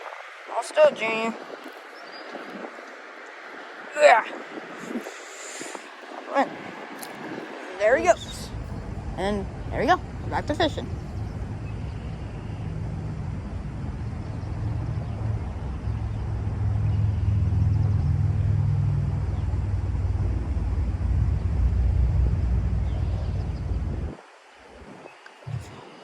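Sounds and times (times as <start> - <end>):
vehicle rumble passing: 0.0 - 25.8.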